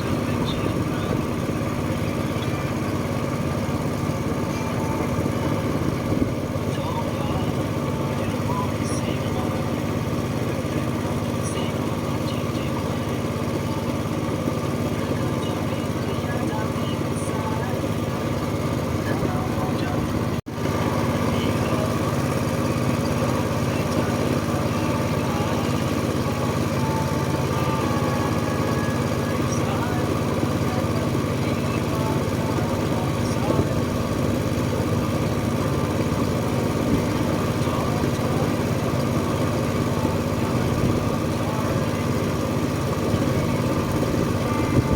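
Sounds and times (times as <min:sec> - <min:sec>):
boat engine chugging: 0:00.0 - 0:44.9.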